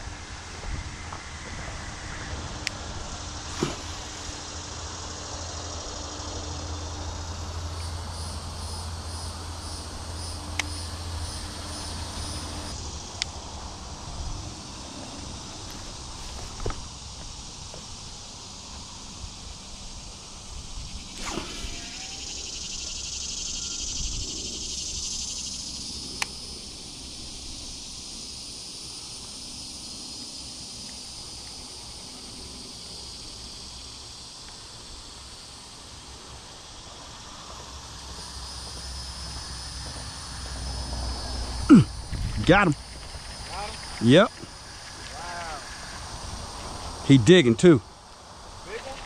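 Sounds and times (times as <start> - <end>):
insects buzzing: 0.0 - 49.0.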